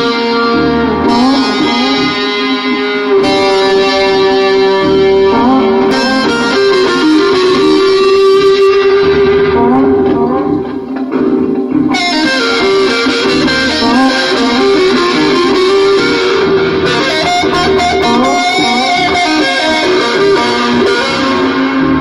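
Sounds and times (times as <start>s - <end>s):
fretless electric bass playing: 0.0s - 22.0s.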